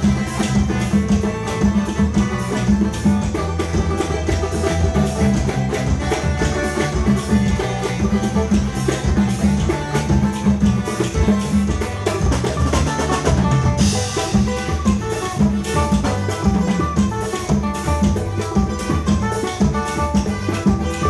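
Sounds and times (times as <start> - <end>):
drum kit and bass: 0.0 - 21.0
plucked viola caipira: 0.0 - 21.0.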